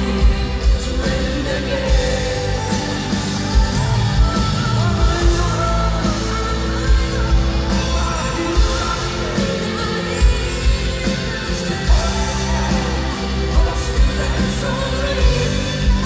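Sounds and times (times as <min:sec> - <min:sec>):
live band playing: 0:00.0 - 0:16.0
woman singing: 0:00.0 - 0:16.0.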